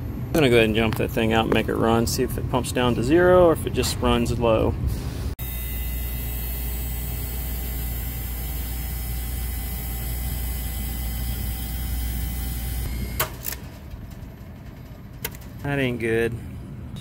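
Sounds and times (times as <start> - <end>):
condensing unit humming: 0.0 - 17.0.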